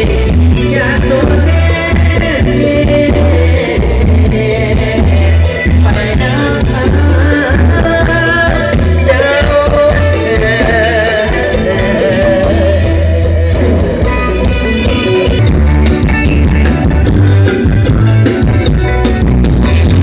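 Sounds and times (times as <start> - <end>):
band music through sound system: 0.0 - 20.0
pulsing bass line: 0.0 - 20.0.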